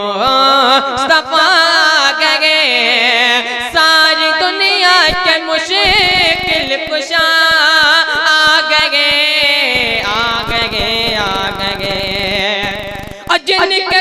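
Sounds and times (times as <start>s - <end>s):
boy singing: 0.0s - 14.0s.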